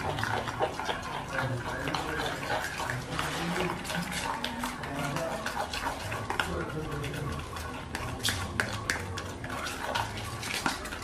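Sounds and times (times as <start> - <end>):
spoon clicking and scraping bowl: 0.0 - 11.0
spoon stirring thick batter: 0.0 - 11.0.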